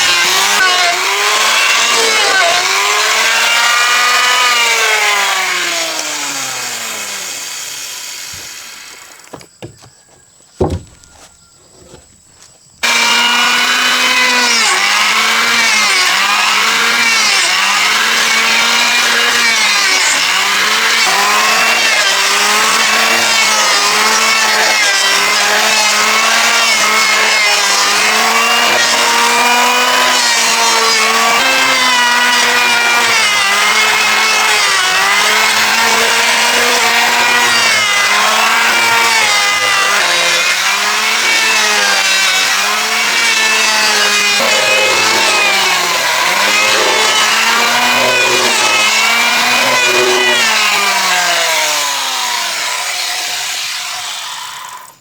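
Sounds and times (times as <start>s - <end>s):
power saw cutting wood: 0.0s - 12.0s, 12.8s - 55.0s.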